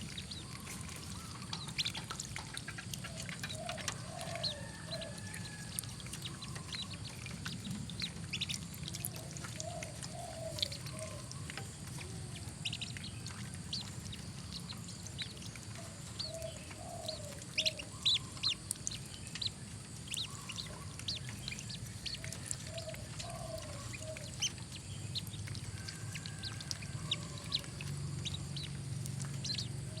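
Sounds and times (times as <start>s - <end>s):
ducklings peeping: 0.0s - 30.0s
steady low hum: 0.0s - 30.0s.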